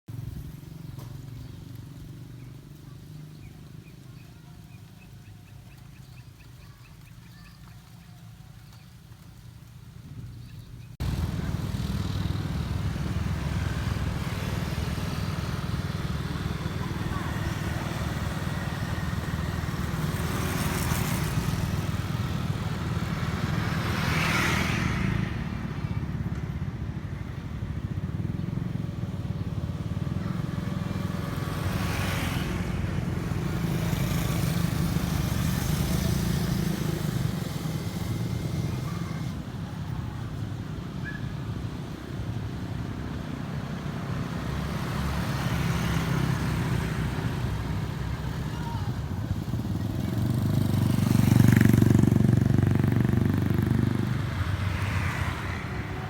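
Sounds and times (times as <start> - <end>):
vehicles passing by: 0.0 - 56.0
traffic engine rumble: 0.1 - 56.0.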